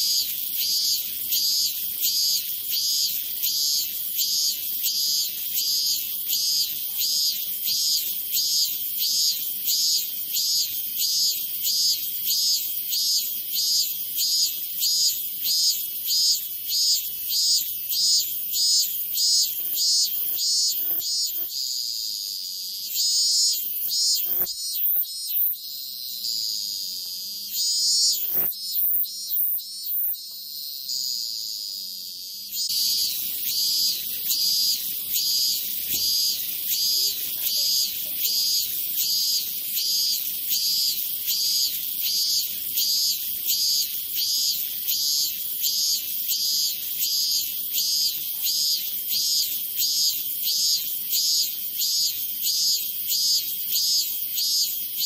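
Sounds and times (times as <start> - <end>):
cicada buzzing: 0.0 - 55.0.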